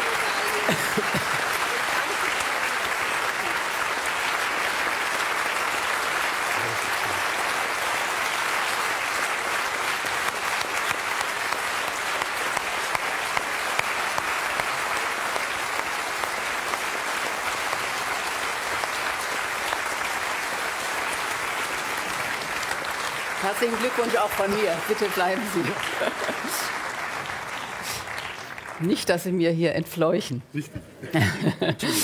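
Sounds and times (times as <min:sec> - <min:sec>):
audience applauding: 0:00.0 - 0:29.5.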